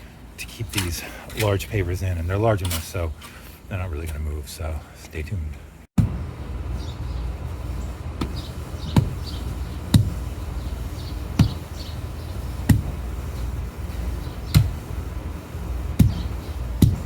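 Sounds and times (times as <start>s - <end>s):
steady low rumble: 0.0s - 4.8s, 5.5s - 17.0s.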